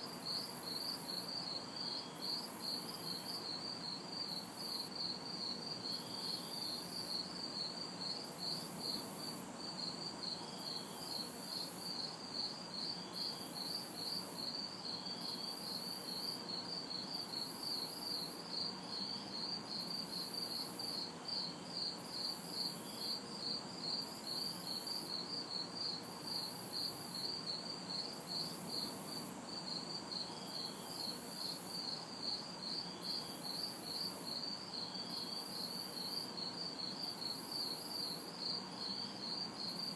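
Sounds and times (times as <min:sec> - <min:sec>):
crickets chirping: 0:00.0 - 0:39.9
high insect buzz: 0:00.1 - 0:39.9.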